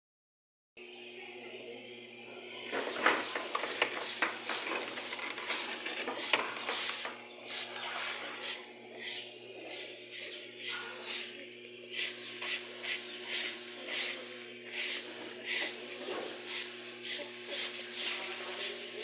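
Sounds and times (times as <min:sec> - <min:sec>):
steady low hum: 0:00.8 - 0:19.0.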